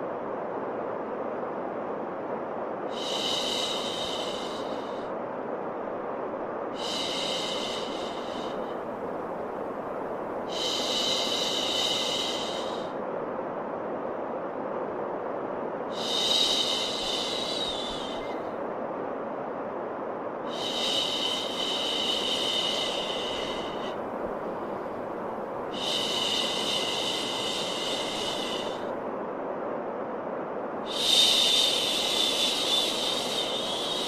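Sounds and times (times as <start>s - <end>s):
steady white noise: 0.0s - 34.0s.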